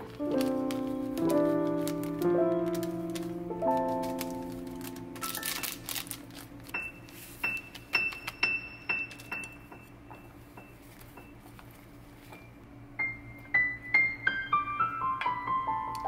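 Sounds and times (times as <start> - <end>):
piano music: 0.0 - 11.4, 12.4 - 16.0.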